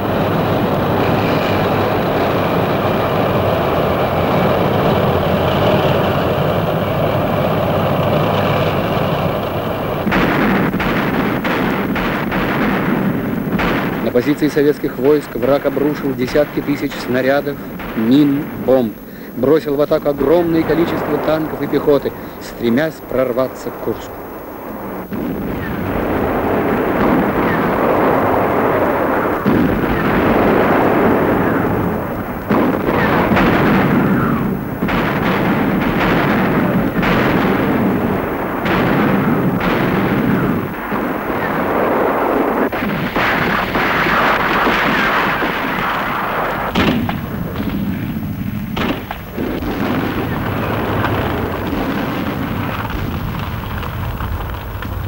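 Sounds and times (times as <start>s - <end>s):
artillery fire rumble: 0.0s - 55.0s
sharp shots and blasts: 0.0s - 55.0s.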